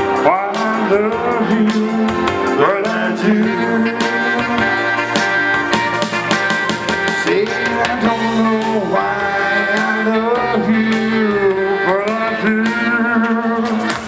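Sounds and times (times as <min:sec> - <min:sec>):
backing track: 0:00.0 - 0:14.0
person singing karaoke: 0:00.0 - 0:14.0.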